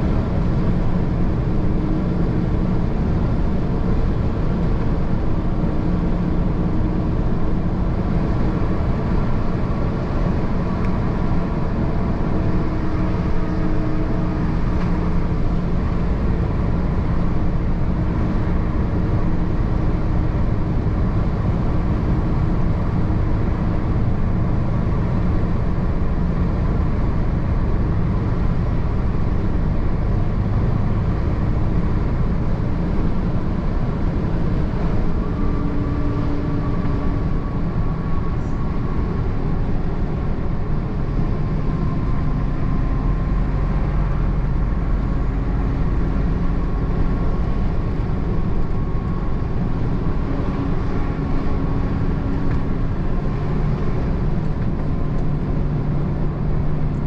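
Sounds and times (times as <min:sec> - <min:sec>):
heavy truck engine drone: 0:00.0 - 0:57.0
road rumble: 0:00.0 - 0:57.0.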